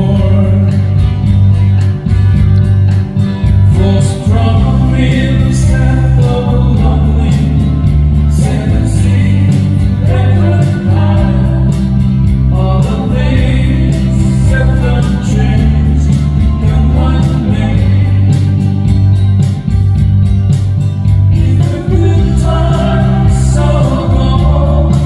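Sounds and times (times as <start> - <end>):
song with singing and bass: 0.0 - 25.0.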